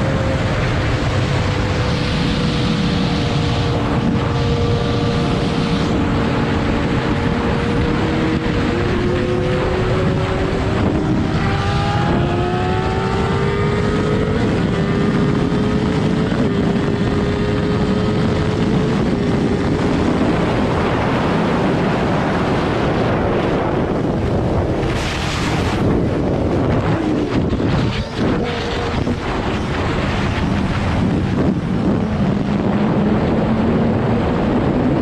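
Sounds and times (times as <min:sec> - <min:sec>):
motorcycle engine accelerating: 0:00.0 - 0:35.0
wind noise on microphone: 0:00.0 - 0:35.0.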